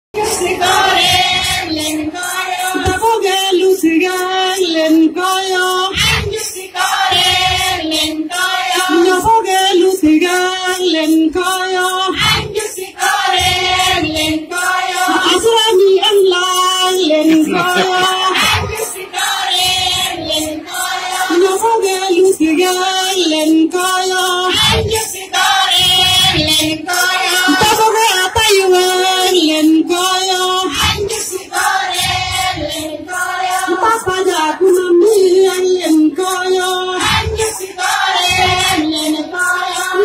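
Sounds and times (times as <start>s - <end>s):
group of women singing in unison: 0.2s - 40.0s.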